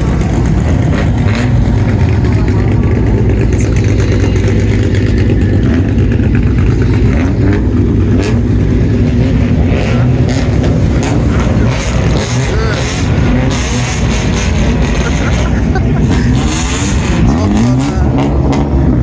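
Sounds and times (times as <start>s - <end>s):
car exhausts rumbling: 0.0s - 19.0s.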